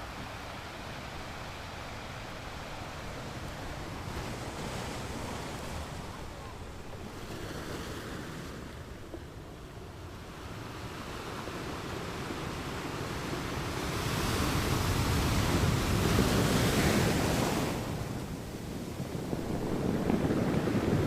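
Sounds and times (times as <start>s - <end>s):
ocean waves on a shore: 0.0s - 21.0s.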